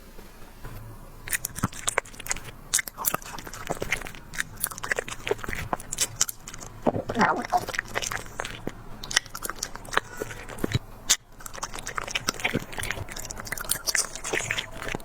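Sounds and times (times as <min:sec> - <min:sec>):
dogs chewing and crunching: 0:00.7 - 0:15.0.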